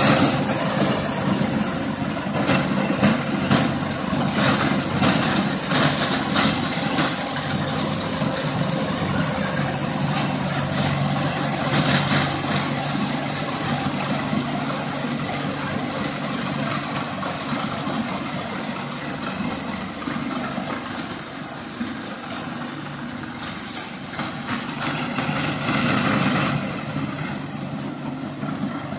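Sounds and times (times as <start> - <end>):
mulcher shredding stubble: 0.0 - 28.9
tractor engine hum: 0.0 - 28.9.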